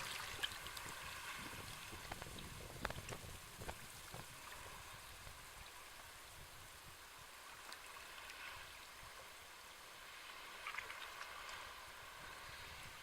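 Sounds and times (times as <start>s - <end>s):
waves washing against shore: 0.0s - 13.0s.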